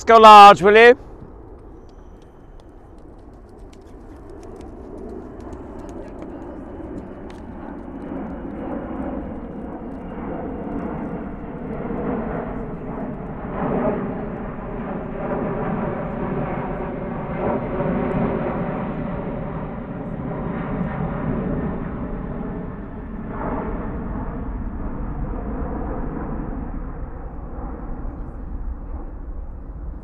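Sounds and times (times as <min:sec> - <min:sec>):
airplane engine humming: 0:00.0 - 0:30.0.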